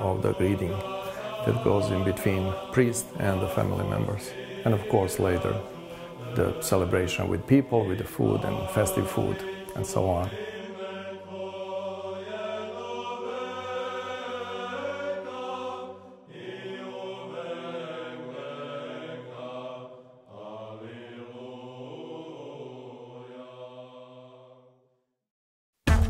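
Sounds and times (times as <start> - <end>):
low vocal drone: 0.0 - 24.5
choir chanting: 0.0 - 25.0.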